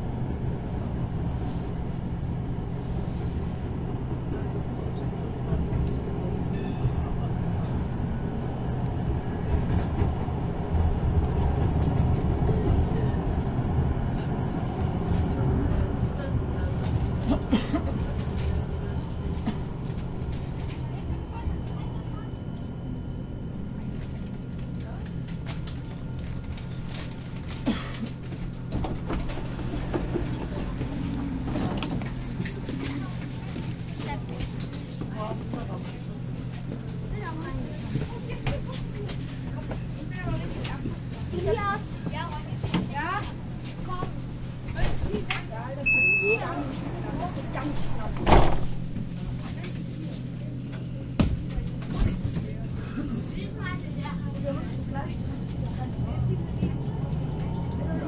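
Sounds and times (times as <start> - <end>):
tram wheels rumbling on rail: 0.0 - 58.0.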